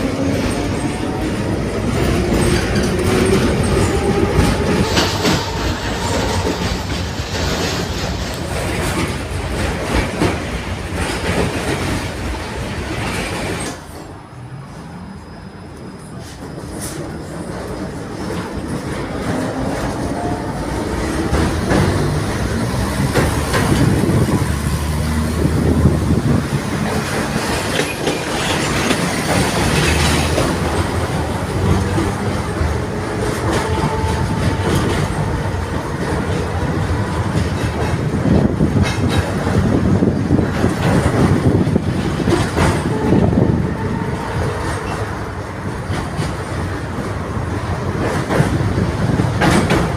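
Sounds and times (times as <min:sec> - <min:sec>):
wheels clacking over rail joints: 0:00.0 - 0:14.1, 0:16.4 - 0:49.9
tram wheels rumbling on rails: 0:00.0 - 0:49.9.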